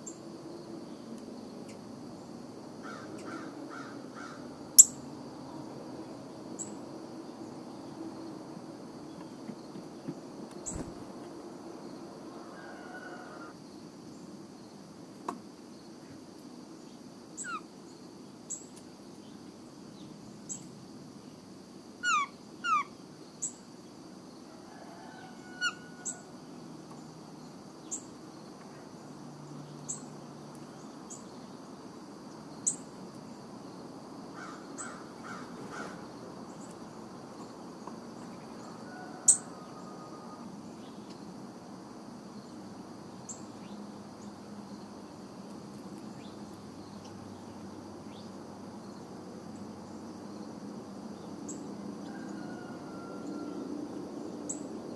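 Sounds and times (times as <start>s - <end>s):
high insect drone: 0.0s - 54.9s.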